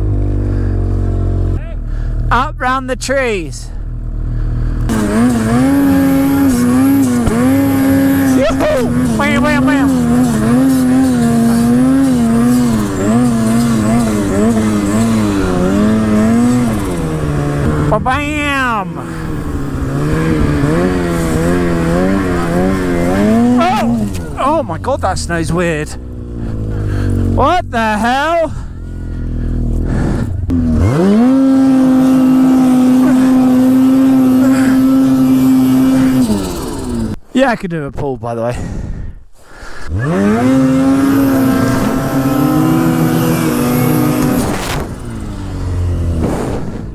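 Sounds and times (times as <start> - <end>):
snowmobile engine running hard: 0.0 - 37.2, 39.6 - 46.9.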